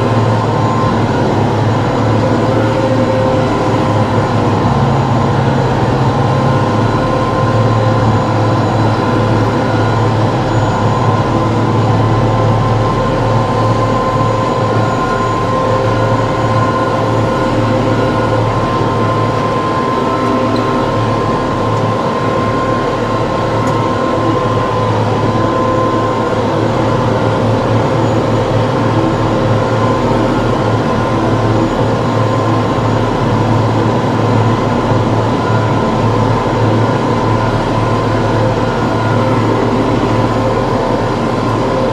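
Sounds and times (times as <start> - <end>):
steady whine: 0.0 - 41.9
tractor engine drone: 0.0 - 41.9.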